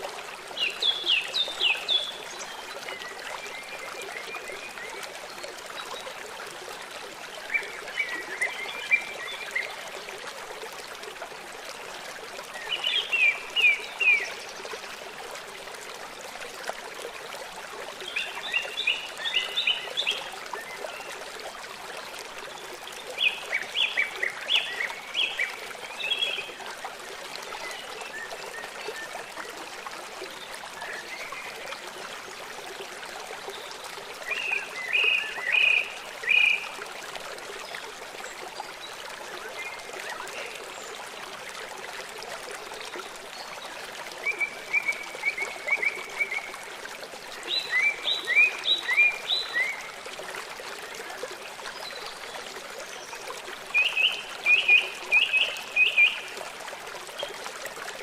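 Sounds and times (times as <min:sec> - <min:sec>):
flowing stream: 0:00.0 - 0:58.0.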